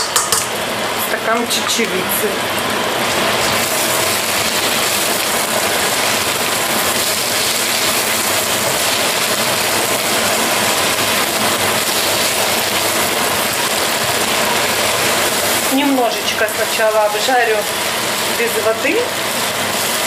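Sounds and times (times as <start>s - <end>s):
lentils sizzling in a saucepan: 0.5s - 20.0s.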